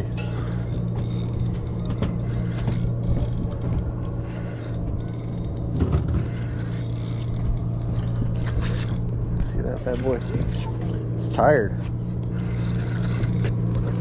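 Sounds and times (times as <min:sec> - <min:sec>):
boat engine humming: 0:00.0 - 0:14.0
faint mechanical clicks and rattles: 0:00.0 - 0:14.0.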